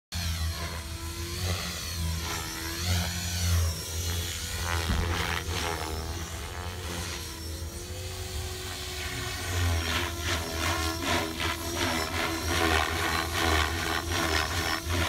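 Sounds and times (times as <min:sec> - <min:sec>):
radio-controlled helicopter rotor whine: 0:00.2 - 0:15.0.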